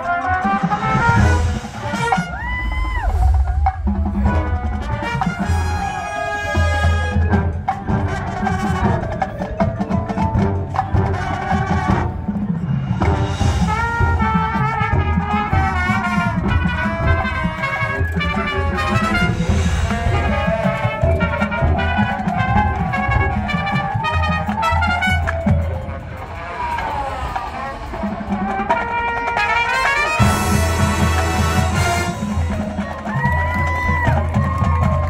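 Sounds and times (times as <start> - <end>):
brass melody: 0.0 - 9.9, 10.6 - 33.4
drums and percussion: 0.0 - 35.0
marching band playing: 0.0 - 35.0.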